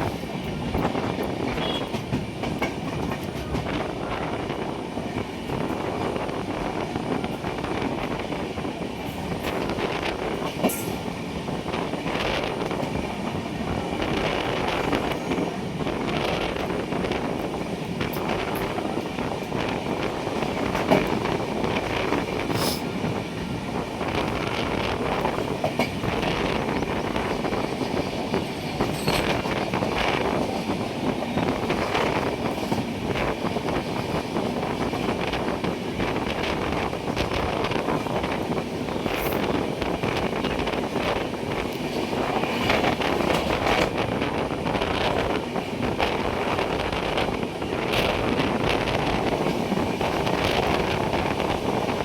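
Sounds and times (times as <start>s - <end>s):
train rumbling on rails: 0.0s - 52.0s.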